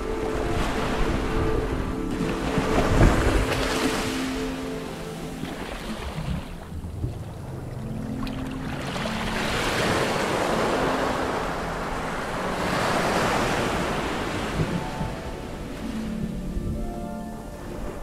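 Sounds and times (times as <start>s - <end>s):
surf heard underwater: 0.0s - 18.0s.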